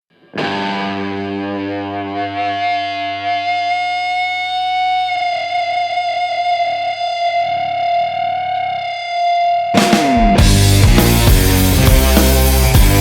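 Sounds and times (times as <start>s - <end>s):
distorted electric guitar chord ringing: 0.1s - 13.0s.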